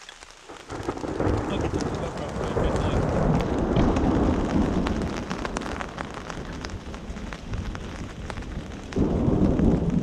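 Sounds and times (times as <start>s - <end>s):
heavy rain: 0.0s - 10.0s
raindrops ticking on a surface: 0.0s - 10.0s
thunder: 0.5s - 10.0s.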